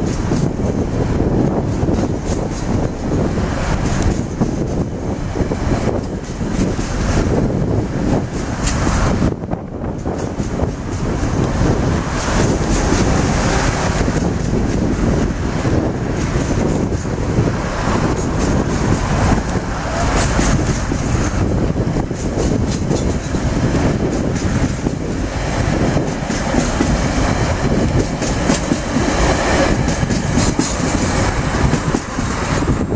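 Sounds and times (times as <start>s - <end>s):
train wheels clattering on rails: 0.0s - 32.9s.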